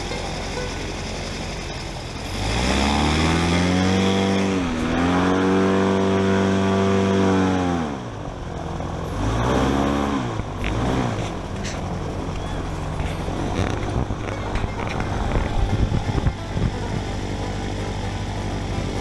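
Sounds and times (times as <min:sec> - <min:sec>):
airboat engine revving: 0:00.0 - 0:19.0.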